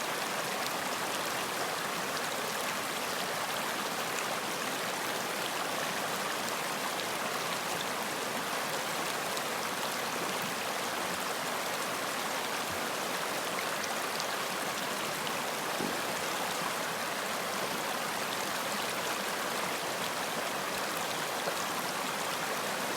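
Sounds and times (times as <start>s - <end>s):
stream flowing: 0.0s - 22.9s.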